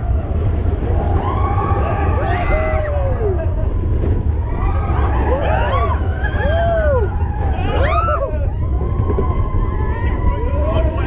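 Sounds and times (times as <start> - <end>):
riders whooping and screaming: 0.0 - 11.0
roller coaster rumbling on track: 0.0 - 11.0.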